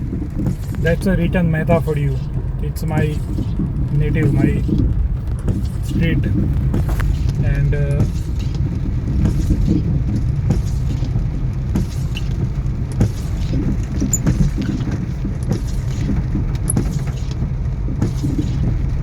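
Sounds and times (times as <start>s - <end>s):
tyres rumbling on rough road: 0.0s - 19.0s.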